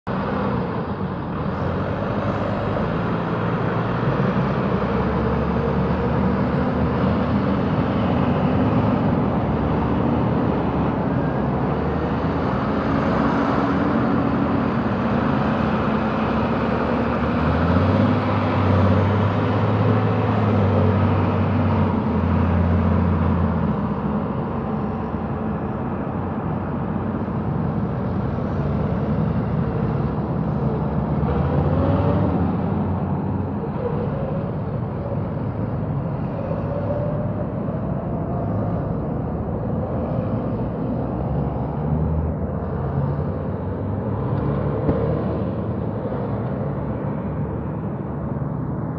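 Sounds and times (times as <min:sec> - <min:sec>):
tractor engines pulling away: 0:00.1 - 0:48.9.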